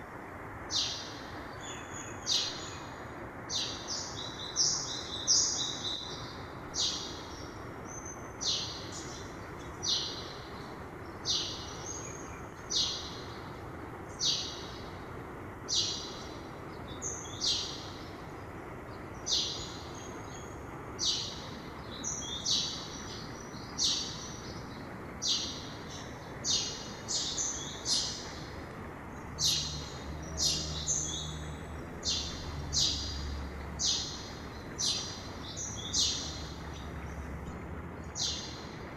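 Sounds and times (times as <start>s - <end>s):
river rushing: 0.0s - 38.9s
songbird high call: 0.7s - 13.5s, 14.1s - 15.0s, 15.7s - 18.2s, 19.1s - 28.6s, 29.4s - 37.2s, 38.1s - 38.8s.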